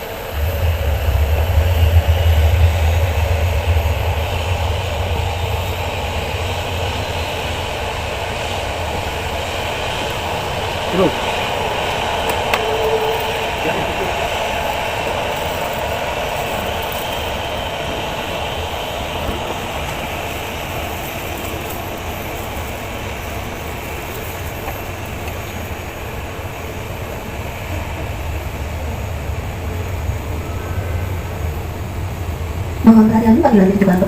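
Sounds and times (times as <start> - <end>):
aircraft engines rumbling: 0.0 - 34.0.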